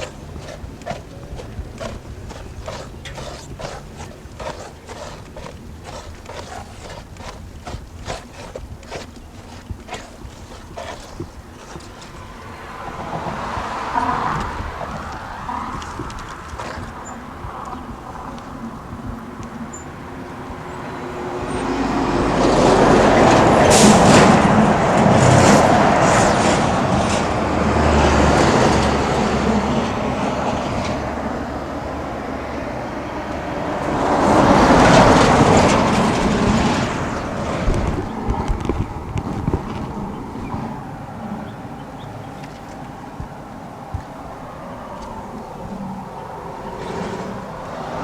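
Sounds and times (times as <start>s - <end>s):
deep engine rumble: 0.0s - 48.0s
vehicles passing: 0.0s - 48.0s.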